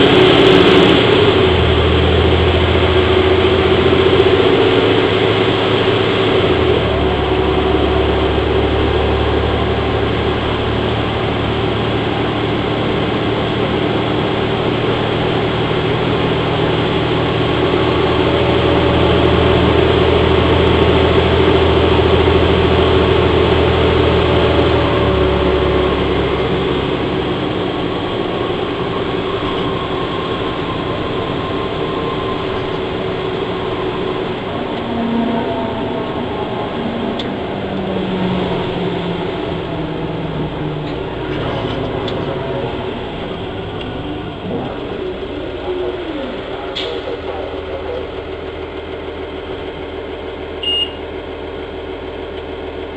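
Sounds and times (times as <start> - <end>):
bus diesel engine pulling: 0.0 - 52.9
road noise: 0.0 - 52.9.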